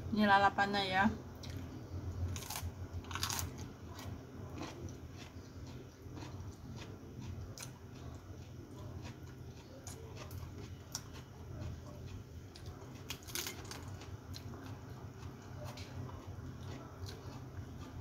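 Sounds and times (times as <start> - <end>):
low steady hum: 0.0 - 18.0
person chewing with crunches: 1.4 - 18.0.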